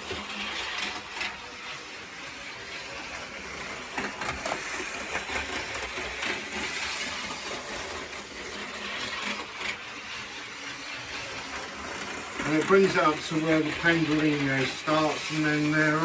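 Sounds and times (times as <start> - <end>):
model train motor whirring: 0.0 - 16.0.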